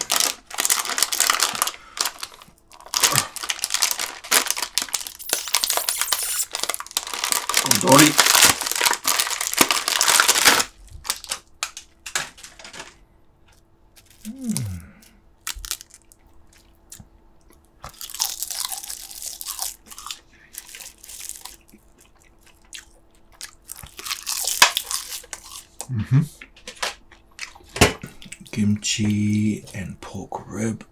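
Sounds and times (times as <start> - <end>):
crunchy chewing and biting: 0.0 - 11.2, 13.5 - 28.5.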